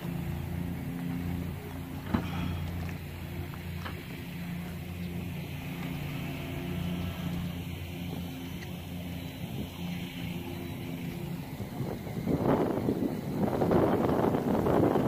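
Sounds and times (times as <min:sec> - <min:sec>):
outboard motor idling: 0:00.0 - 0:15.0.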